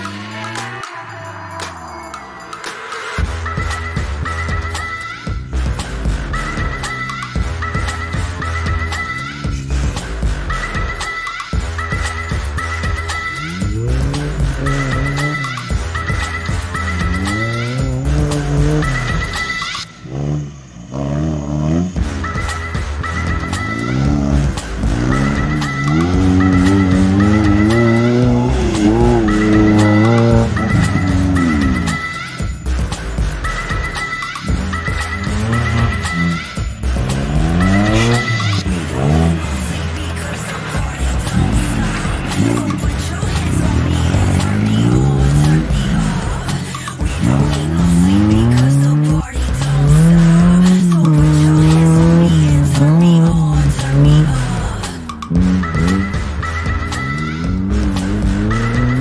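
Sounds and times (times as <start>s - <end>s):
buggy engine revving hard: 0.0s - 0.9s, 3.2s - 59.0s
music with steady beat: 0.0s - 19.9s, 21.7s - 59.0s.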